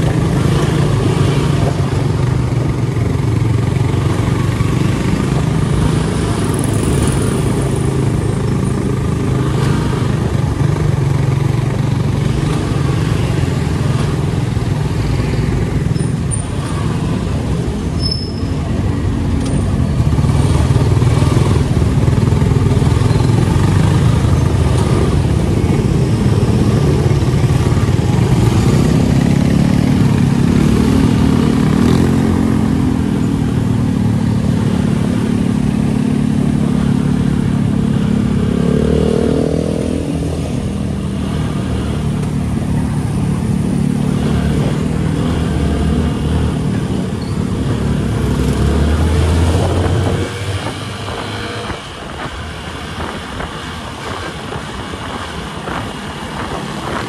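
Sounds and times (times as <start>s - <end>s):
road and traffic noise: 0.0s - 57.0s.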